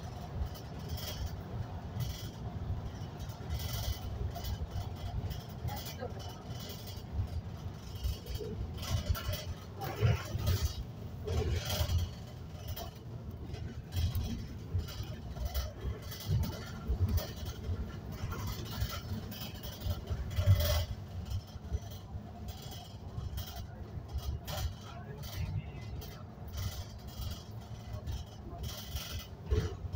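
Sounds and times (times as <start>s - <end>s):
bus engine and road rumble: 0.0s - 29.9s.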